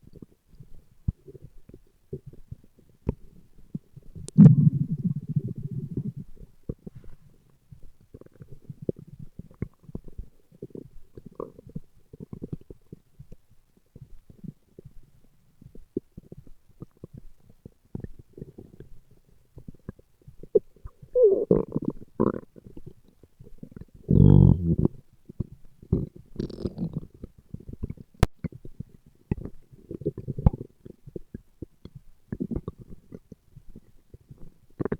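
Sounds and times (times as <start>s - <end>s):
stomach growling: 0.0s - 34.9s.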